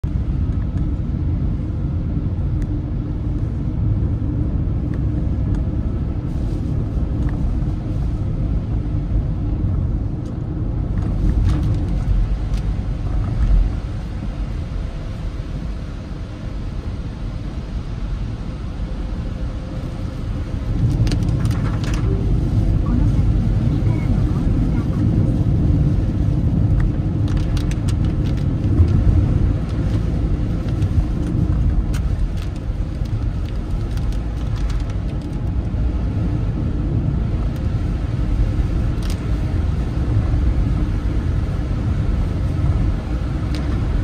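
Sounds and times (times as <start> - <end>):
car engine rumble: 0.0 - 44.0
tyres on wet road: 0.0 - 44.0.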